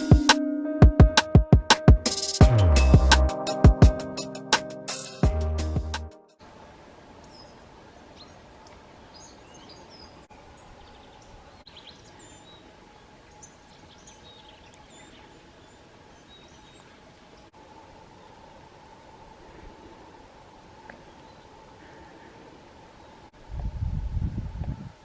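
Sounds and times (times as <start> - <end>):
outdoor background hiss: 2.1 - 25.0.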